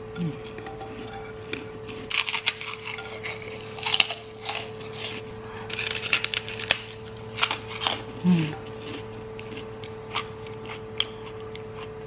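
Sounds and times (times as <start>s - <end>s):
cracker crunching: 0.4s - 12.0s.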